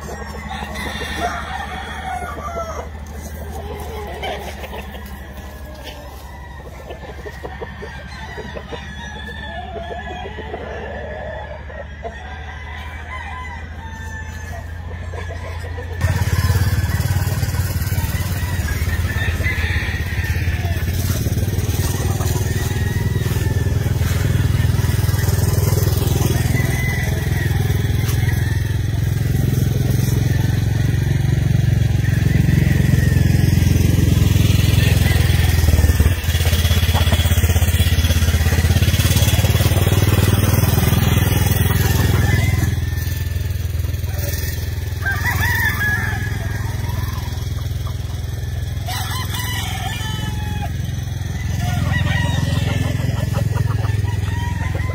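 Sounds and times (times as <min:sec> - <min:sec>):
roosters crowing: 0:00.0 - 0:54.9.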